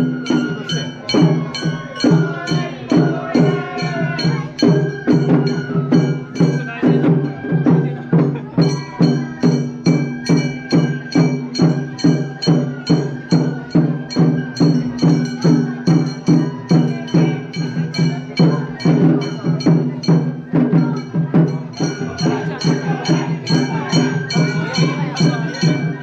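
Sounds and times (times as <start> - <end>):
hand-held gongs struck: 0.0 - 7.4, 8.1 - 26.0
festival float music: 0.0 - 26.0.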